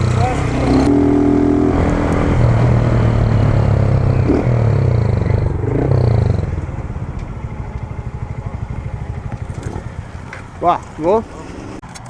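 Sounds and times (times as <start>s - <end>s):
motorcycle engine revving and idling: 0.0s - 11.8s.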